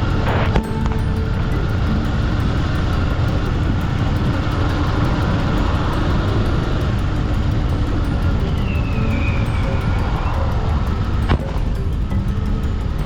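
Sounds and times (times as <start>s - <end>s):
wind rush: 0.0s - 13.0s.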